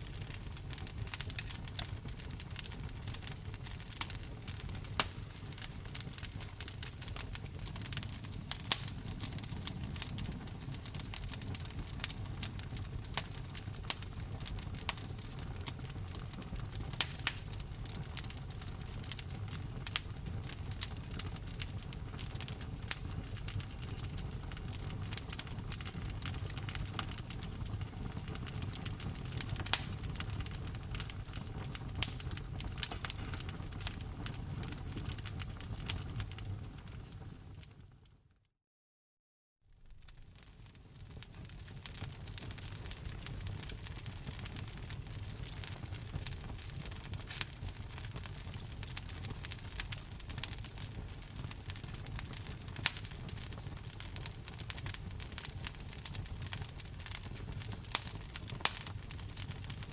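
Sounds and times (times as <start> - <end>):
wood fire crackling: 0.0 - 37.9, 39.7 - 59.9.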